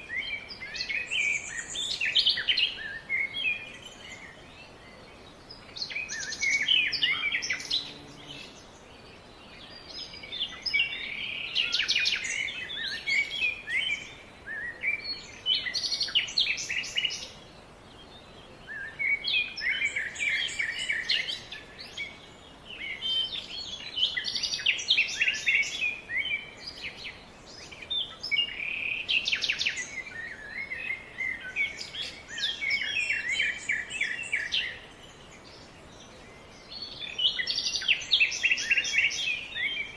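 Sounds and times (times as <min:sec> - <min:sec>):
faint background hiss: 0:00.0 - 0:39.9
small birds chirping: 0:00.0 - 0:39.9.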